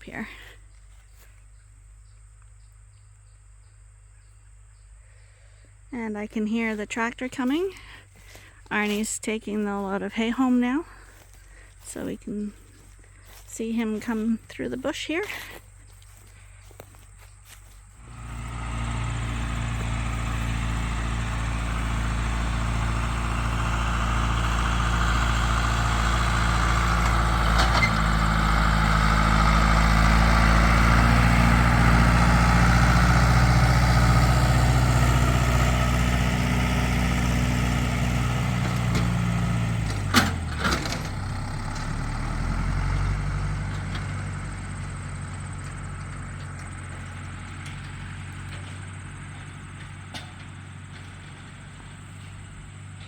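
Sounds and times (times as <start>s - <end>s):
tractor engine running: 5.6s - 53.0s.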